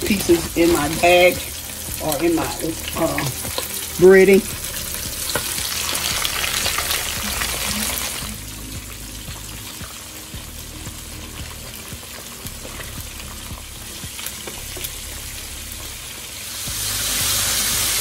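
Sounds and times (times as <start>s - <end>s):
fish frying in hot oil: 0.0s - 18.0s.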